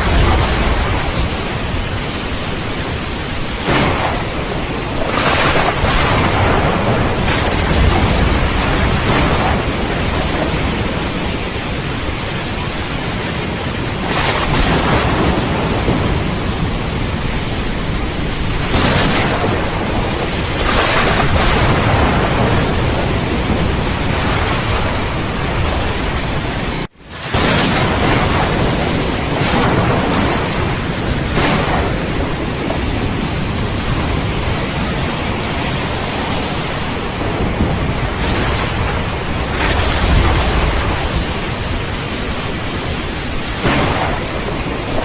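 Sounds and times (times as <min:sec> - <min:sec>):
heavy rain: 0:00.0 - 0:45.0
thunder rumbling: 0:00.0 - 0:45.0.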